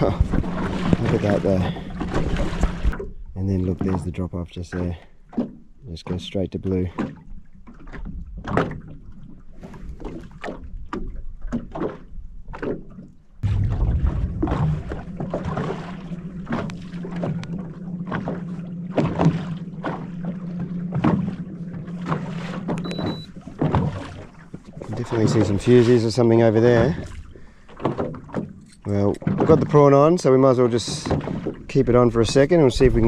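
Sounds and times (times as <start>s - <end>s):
boat motor humming: 0.0s - 33.0s
waves slapping against hull: 0.0s - 33.0s.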